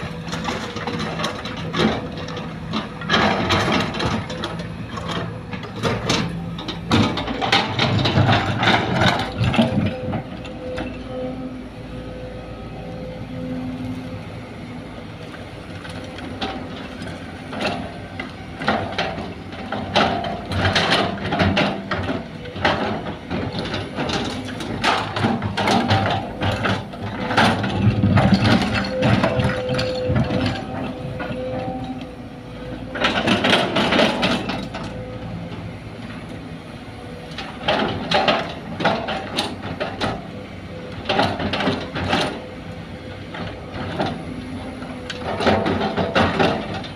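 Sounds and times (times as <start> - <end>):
excavator diesel engine whine: 0.0 - 46.9.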